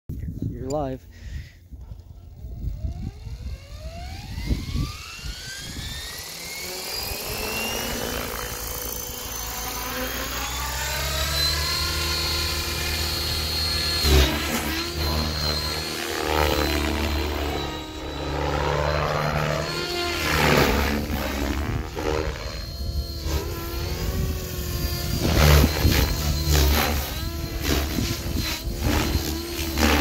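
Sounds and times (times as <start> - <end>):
rc helicopter motor whine: 0.8 - 30.0.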